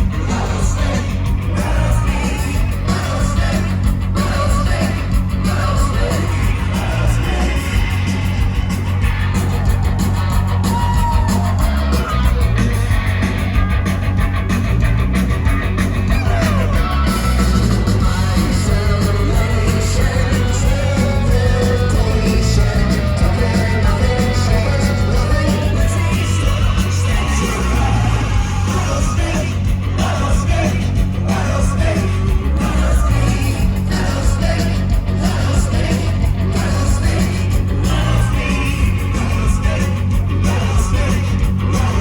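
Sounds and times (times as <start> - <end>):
sung and shouted vocals: 0.0 - 13.1, 16.0 - 42.0
live rock band playing: 0.0 - 42.0.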